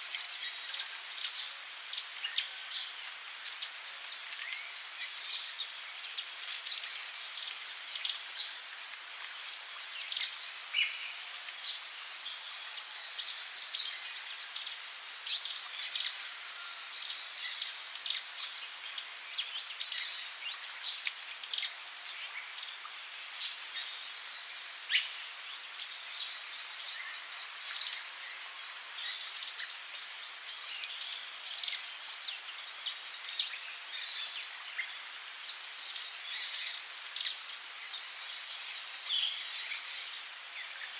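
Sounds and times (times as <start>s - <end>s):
high-pitched insect drone: 0.1s - 40.9s.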